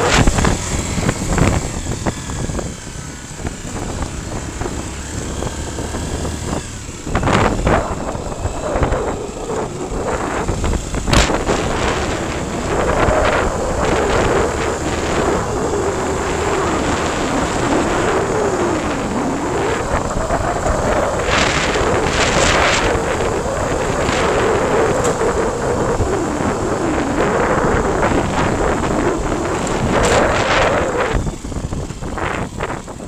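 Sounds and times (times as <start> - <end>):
motorcycle engine running: 0.0 - 33.0
wind buffeting microphone: 0.0 - 33.0.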